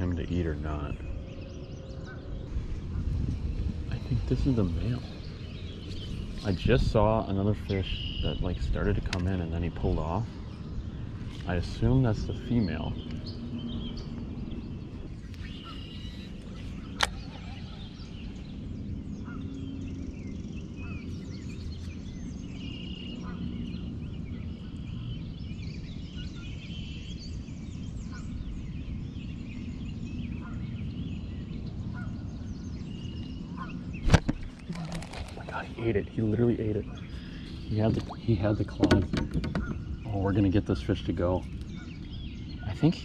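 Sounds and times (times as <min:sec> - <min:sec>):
birds chirping and calling: 0:00.0 - 0:43.0
steady low rumble: 0:00.0 - 0:43.0.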